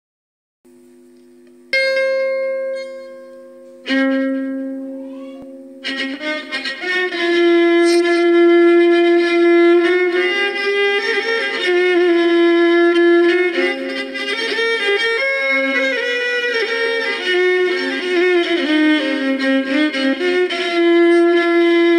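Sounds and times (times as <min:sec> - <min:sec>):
electric violin melody: 0:01.8 - 0:21.9.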